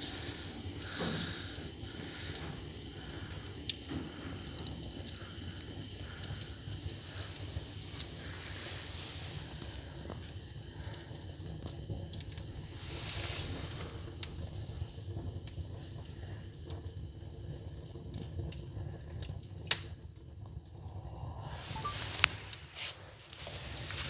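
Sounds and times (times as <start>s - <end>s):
fire crackling in fireplace: 0.0s - 24.0s.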